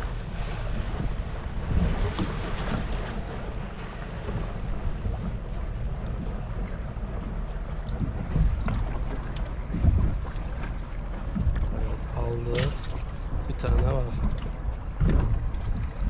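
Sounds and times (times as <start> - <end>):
water washing against hull: 0.0 - 16.0
wind buffeting microphone: 0.0 - 16.0.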